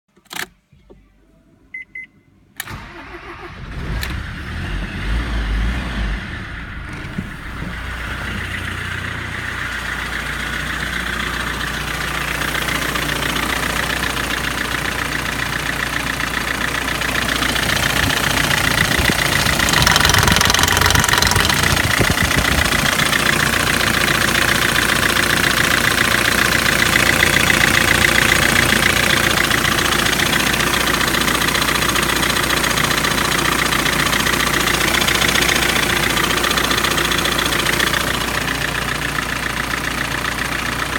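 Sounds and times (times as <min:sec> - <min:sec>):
diesel engine cranking and starting: 0:02.6 - 0:40.9
diesel engine idling: 0:04.3 - 0:40.9.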